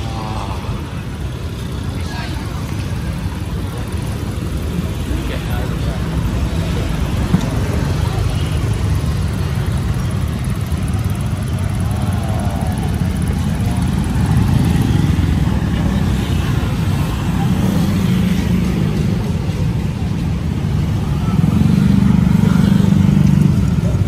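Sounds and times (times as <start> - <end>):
faint voices: 0.0 - 24.0
motorbikes and cars running: 0.0 - 24.0.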